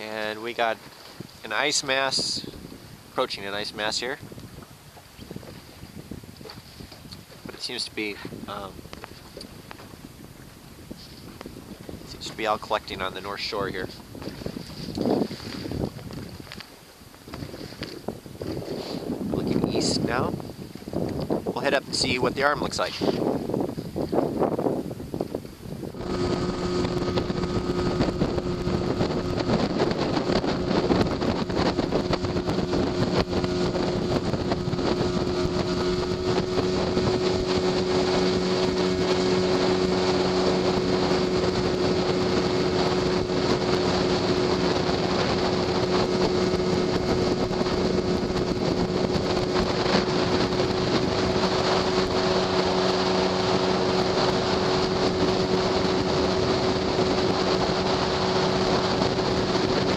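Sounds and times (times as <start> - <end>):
outboard motor humming: 0.0 - 59.9
water rushing along hull: 0.0 - 59.9
wind noise on microphone: 0.0 - 59.9.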